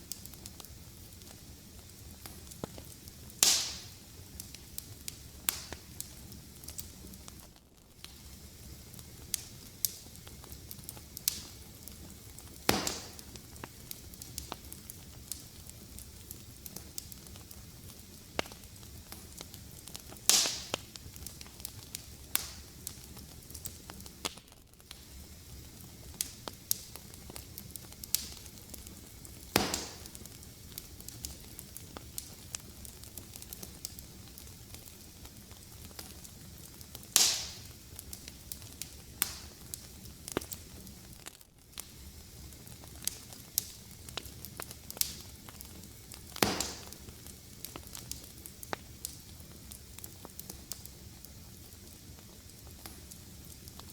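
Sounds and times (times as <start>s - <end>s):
fire crackling: 0.0s - 53.9s
loud fire pop with hiss: 0.0s - 53.9s.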